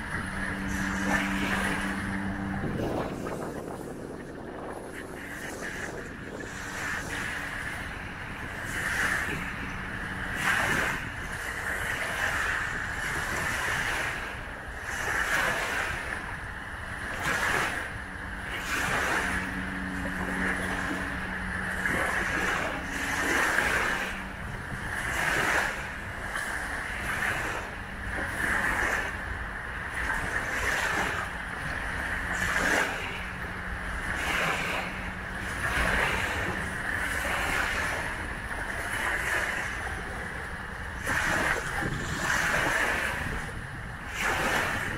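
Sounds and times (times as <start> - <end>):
small waves lapping on shore: 0.0 - 44.9.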